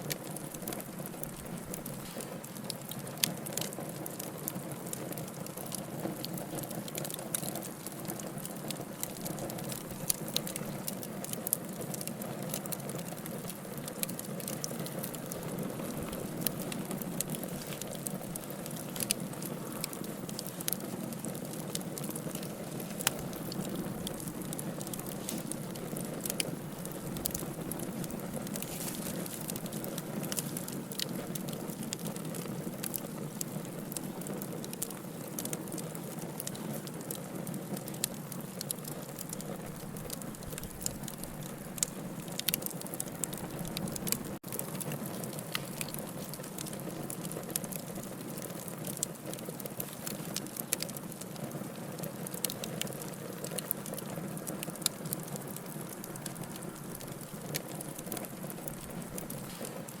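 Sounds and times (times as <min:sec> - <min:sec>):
fire crackling and popping: 0:00.0 - 1:00.0
rush of fire flames: 0:00.1 - 1:00.0.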